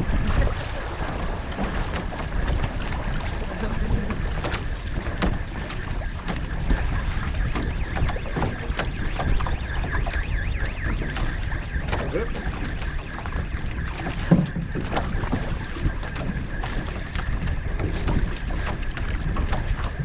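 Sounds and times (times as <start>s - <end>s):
paddle blades splashing: 0.0s - 20.0s
water rushing along canoe hull: 0.0s - 20.0s
wind buffeting microphone: 0.0s - 20.0s.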